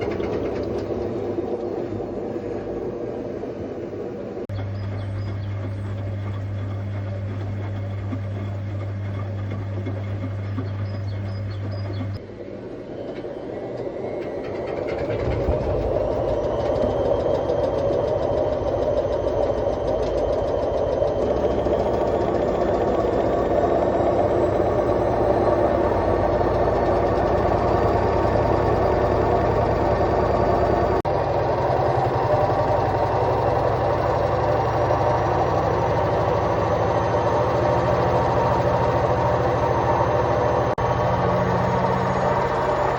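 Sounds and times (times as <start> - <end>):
washing machine drum rumbling and rattling: 0.0 - 12.2, 13.0 - 42.9
steady low hum: 0.0 - 42.9.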